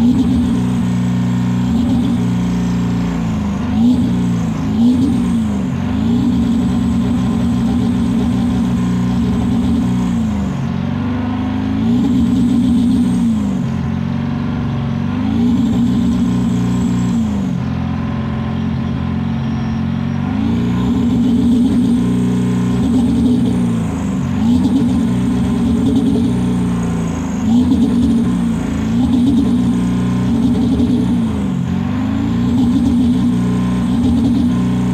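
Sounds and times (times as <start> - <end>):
diesel engine revving: 0.0 - 34.9.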